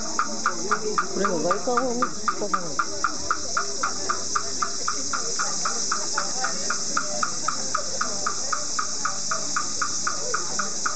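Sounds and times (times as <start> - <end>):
steady high hiss: 0.0 - 10.9
wooden fish drum beating: 0.0 - 10.9.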